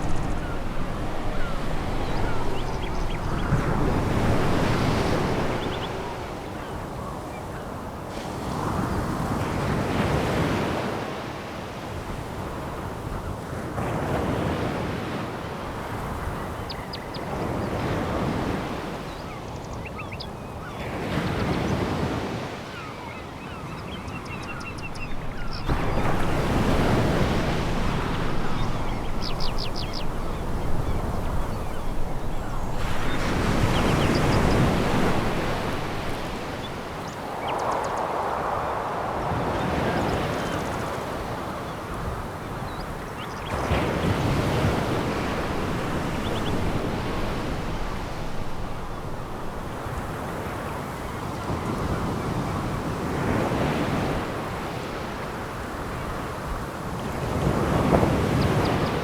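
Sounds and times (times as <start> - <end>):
waves breaking on pebble beach: 0.0 - 16.4, 24.5 - 59.0.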